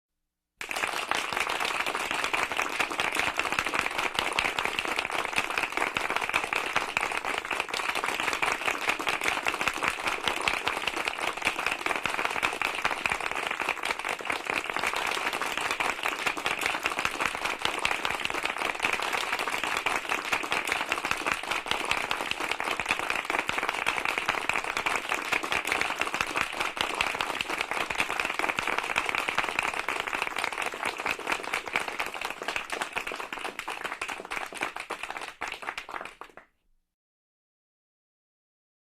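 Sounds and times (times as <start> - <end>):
crowd applauding: 0.6 - 36.5.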